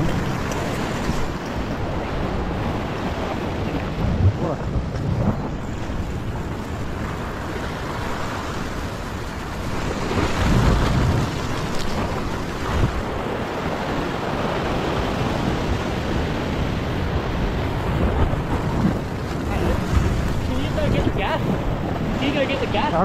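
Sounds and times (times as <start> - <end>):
ocean swell washing against rocks: 0.0 - 23.0
wind buffeting microphone: 0.0 - 23.0.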